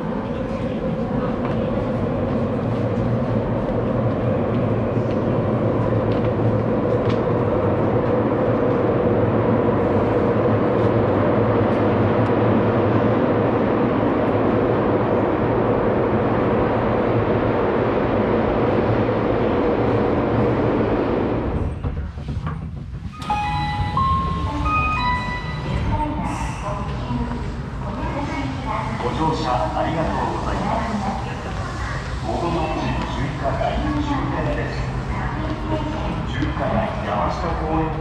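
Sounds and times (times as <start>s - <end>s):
constant hum: 0.0s - 38.0s
subway train rumbling in tunnel: 0.0s - 38.0s.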